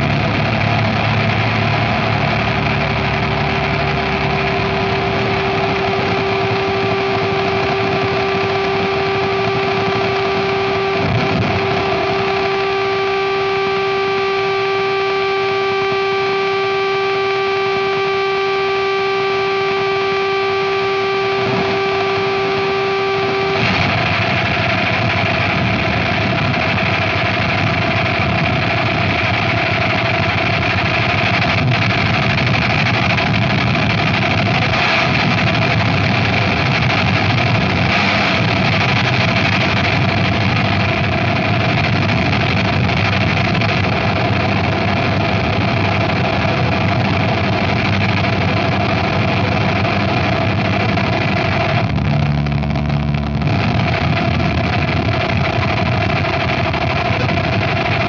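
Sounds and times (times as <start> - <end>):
distorted electronic noise: 0.0 - 58.0
low hum: 0.0 - 58.0.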